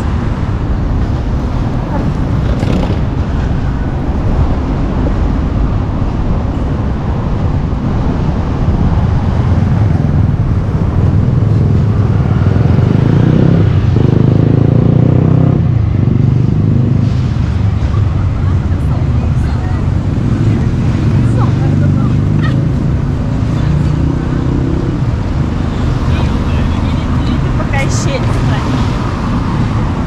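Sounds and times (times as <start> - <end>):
city traffic driving past: 0.0 - 30.0.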